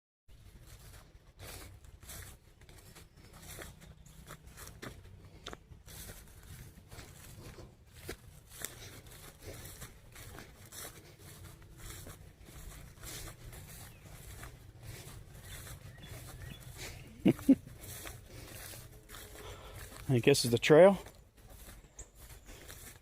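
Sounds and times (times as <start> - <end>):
footsteps crunching on dry ground: 0.3 - 23.0.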